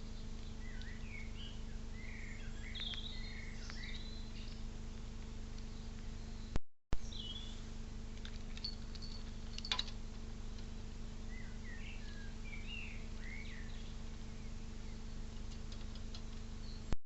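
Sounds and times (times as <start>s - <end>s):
low electrical hum: 0.0s - 17.0s
wild birds chirping: 0.0s - 17.0s.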